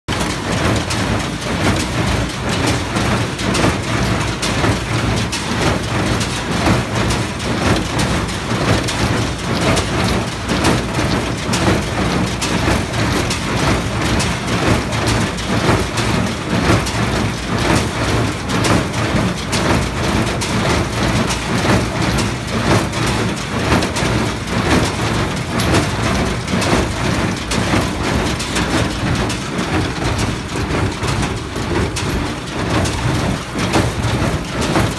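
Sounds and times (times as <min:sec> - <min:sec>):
baler mechanism clattering: 0:00.1 - 0:34.9
tractor engine drone: 0:06.6 - 0:34.9.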